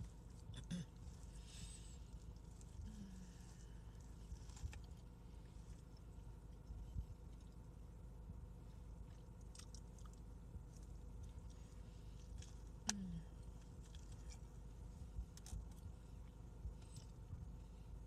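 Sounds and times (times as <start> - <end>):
person chewing food: 0.0 - 7.7, 8.5 - 18.0.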